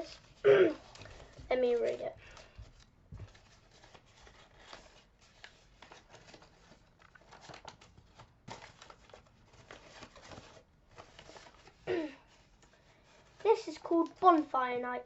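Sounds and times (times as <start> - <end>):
paper rustling and clicking: 0.0 - 14.9.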